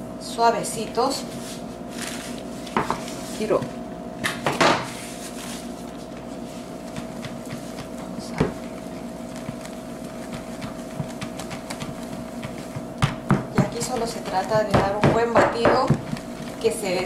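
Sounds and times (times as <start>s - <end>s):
steady appliance hum: 0.0s - 17.0s.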